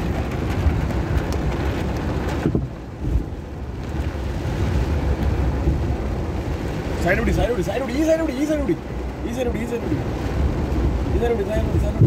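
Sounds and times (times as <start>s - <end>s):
car low rumble: 0.0s - 12.0s
rush of water: 0.0s - 12.0s.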